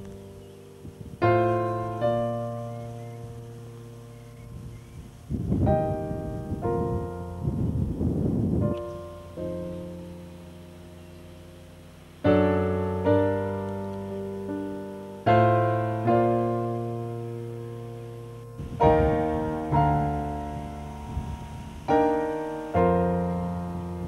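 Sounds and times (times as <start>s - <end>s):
slow solo piano chords: 0.0s - 24.0s.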